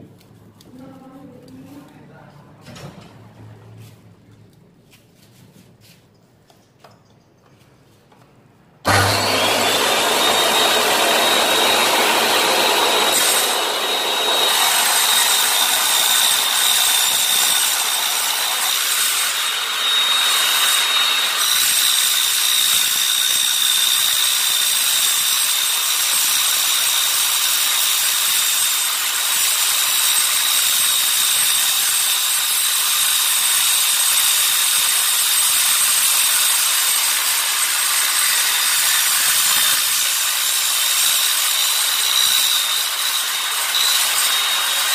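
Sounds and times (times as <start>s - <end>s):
saw cutting through metal: 8.8s - 44.9s.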